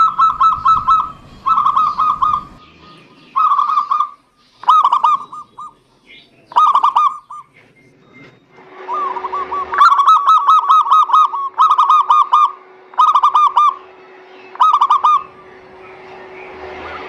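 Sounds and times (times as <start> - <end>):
dove cooing: 0.0 - 7.7, 8.8 - 13.9, 14.5 - 16.0.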